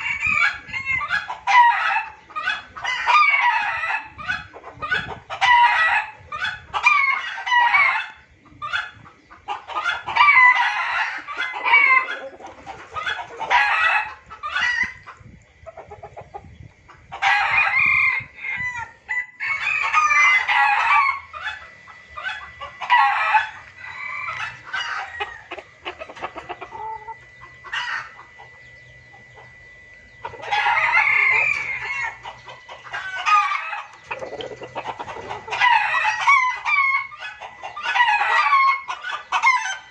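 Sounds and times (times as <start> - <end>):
junglefowl clucking and crowing: 0.0 - 39.9.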